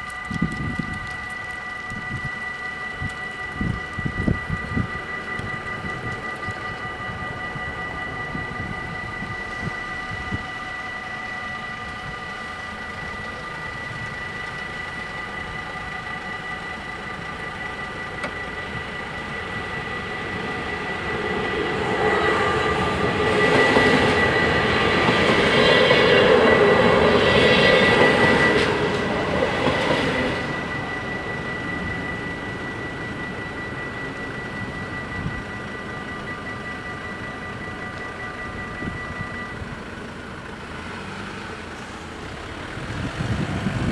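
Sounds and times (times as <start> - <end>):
level crossing bells ringing: 0.0 - 40.9
electric train rumbling past: 0.0 - 43.9.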